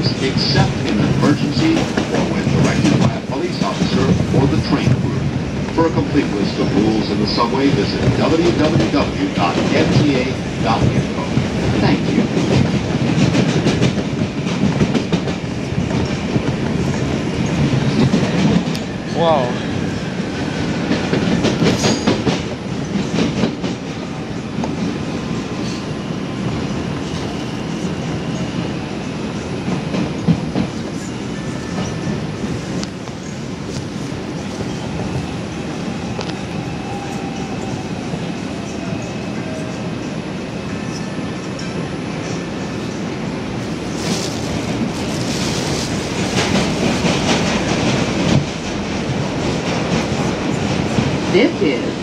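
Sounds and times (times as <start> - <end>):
subway train wheels rumbling: 0.0 - 52.0.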